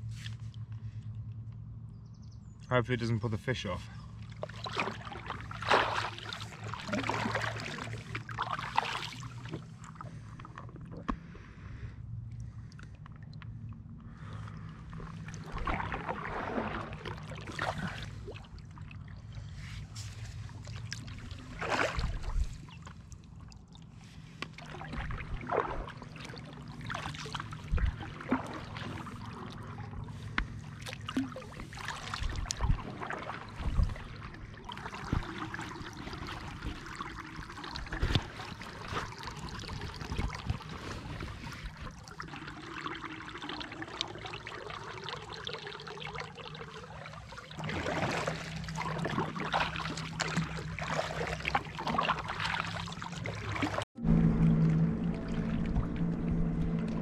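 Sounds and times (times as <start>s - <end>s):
paddle pulling through water: 3.3s - 57.0s.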